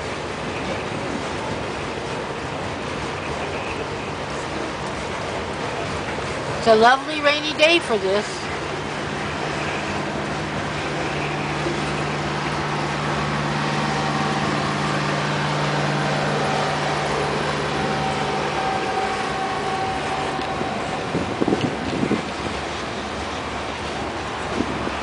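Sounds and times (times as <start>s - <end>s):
freight train rolling past: 0.0s - 25.0s
low hum: 0.0s - 25.0s
train clunks: 0.0s - 25.0s.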